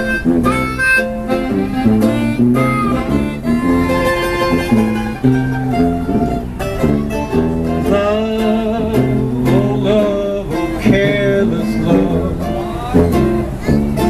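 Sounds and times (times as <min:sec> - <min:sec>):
harmonica line with bending notes: 0:00.0 - 0:14.0
plucked mandolin chords: 0:00.0 - 0:14.0
tuba bass notes: 0:00.0 - 0:14.0.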